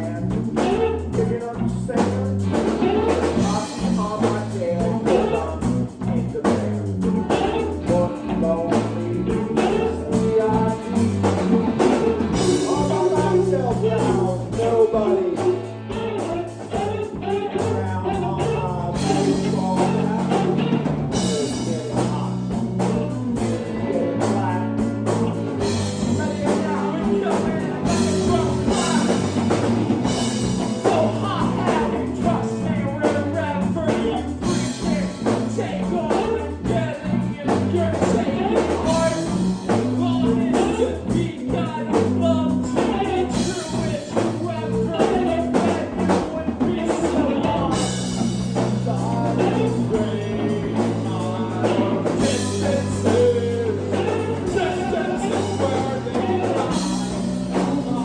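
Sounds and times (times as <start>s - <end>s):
drum kit: 0.0s - 58.0s
live rock band playing: 0.0s - 58.0s
person singing: 0.0s - 58.0s.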